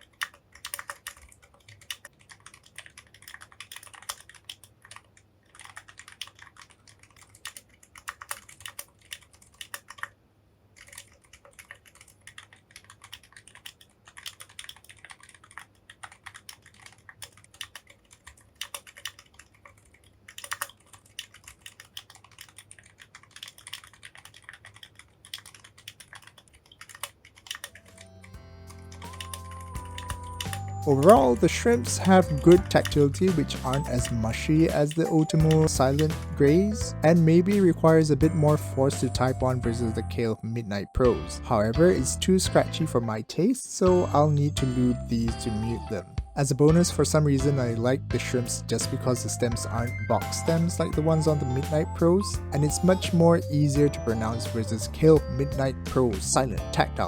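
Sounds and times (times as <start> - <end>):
soft muted keyboard typing: 0.0 - 57.0.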